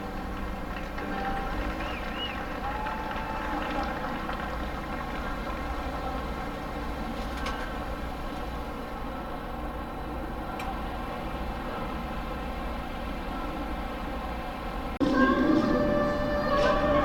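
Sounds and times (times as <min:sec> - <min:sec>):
ship machinery humming: 0:00.0 - 0:17.0.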